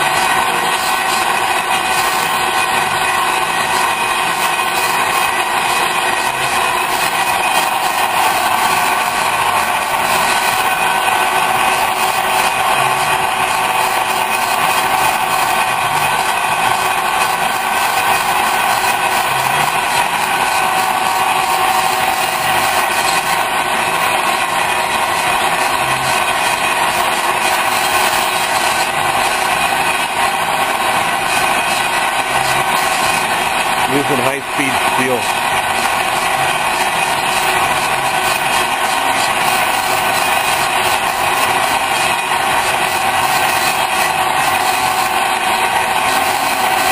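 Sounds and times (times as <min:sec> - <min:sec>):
metal lathe cutting: 0:00.0 - 0:46.9.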